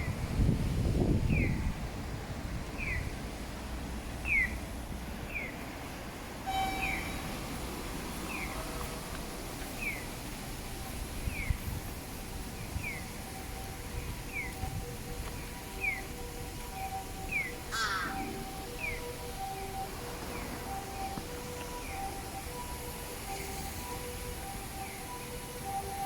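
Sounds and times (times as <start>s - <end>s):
low rumble of street noise: 0.0s - 26.0s.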